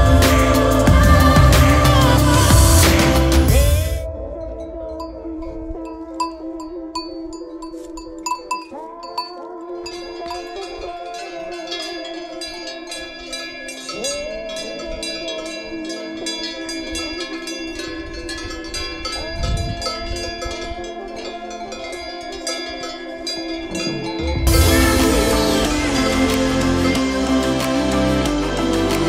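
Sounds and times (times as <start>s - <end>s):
bell-like ringing tones: 3.9s - 27.3s.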